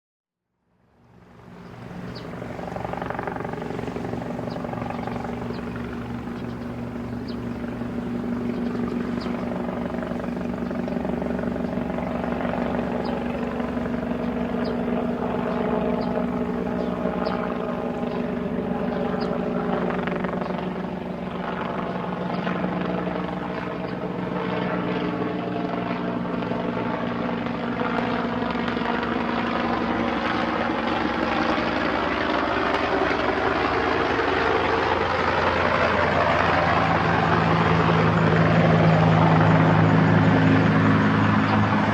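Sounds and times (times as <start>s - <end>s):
helicopter engine hum: 0.8s - 41.9s
helicopter rotor blades beating: 1.0s - 41.9s.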